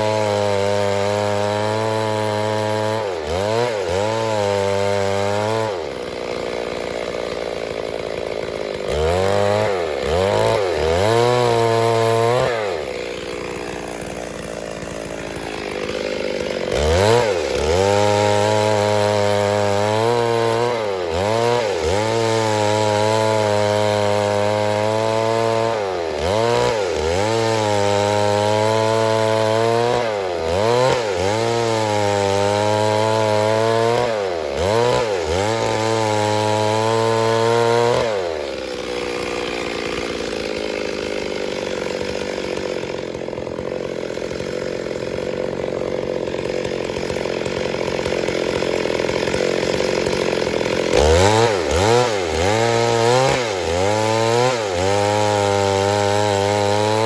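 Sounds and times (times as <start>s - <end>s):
chainsaw revving while cutting wood: 0.0s - 57.0s.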